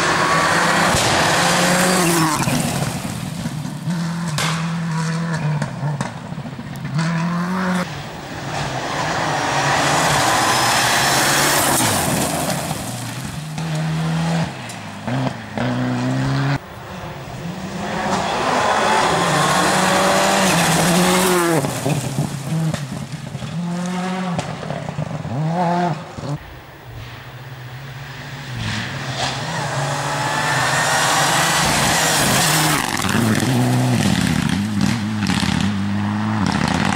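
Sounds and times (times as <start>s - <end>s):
rally car engines revving: 0.0s - 26.4s, 27.0s - 36.9s.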